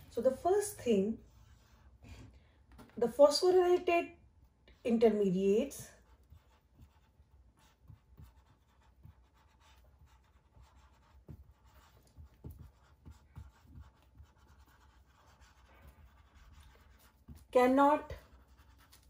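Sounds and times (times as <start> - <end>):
marker writing on whiteboard: 0.0 - 3.2, 4.8 - 19.0.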